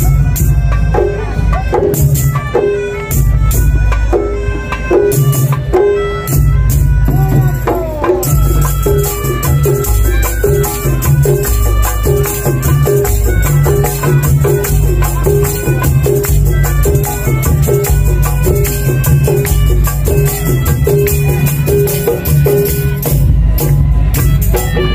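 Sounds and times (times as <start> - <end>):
deep drum beats: 0.0 - 24.9
jingling rattling percussion: 0.0 - 24.9
percussion ensemble parade music: 0.0 - 24.9.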